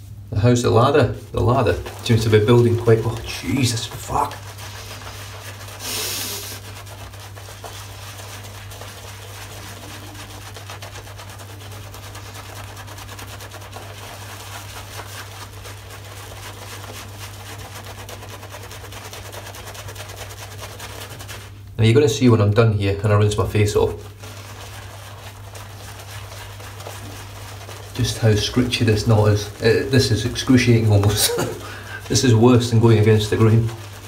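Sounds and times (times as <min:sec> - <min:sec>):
steady low hum: 0:00.0 - 0:34.0
shaving brush scrubbing lather: 0:00.7 - 0:21.6, 0:23.0 - 0:34.0.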